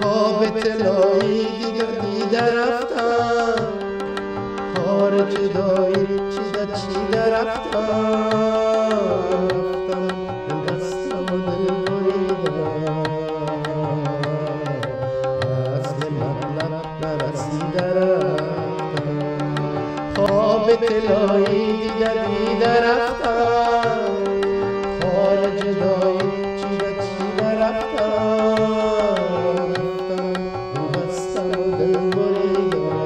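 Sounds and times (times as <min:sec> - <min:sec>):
man singing: 0:00.0 - 0:33.0
tabla drumming: 0:00.0 - 0:33.0.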